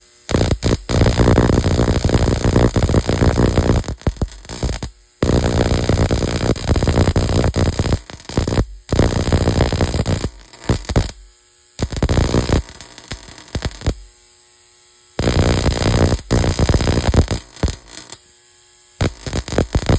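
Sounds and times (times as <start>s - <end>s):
buzzing crackle of sparks: 0.0s - 19.9s.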